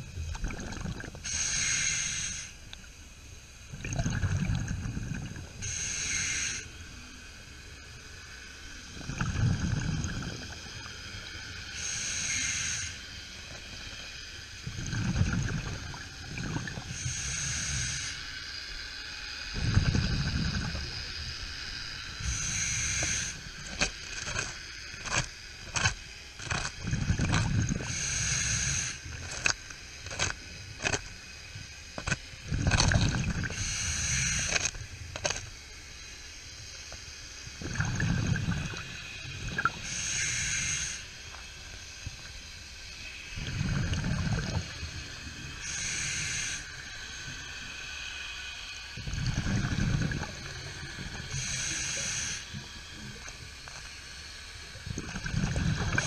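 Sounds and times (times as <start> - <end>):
bubbling exhale rumble: 0.0 - 2.8, 3.6 - 6.7, 8.8 - 18.5, 19.4 - 31.1, 32.0 - 35.4, 37.5 - 56.0
regulator inhale hiss: 1.0 - 3.6, 4.4 - 24.0, 27.1 - 32.6, 33.2 - 56.0.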